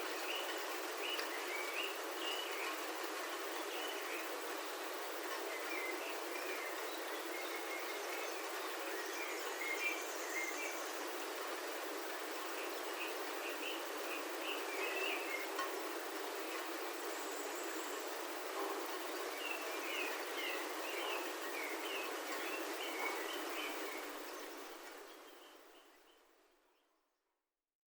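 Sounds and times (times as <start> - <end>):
birds chirping: 0.0 - 11.0, 12.4 - 15.8, 16.4 - 26.9.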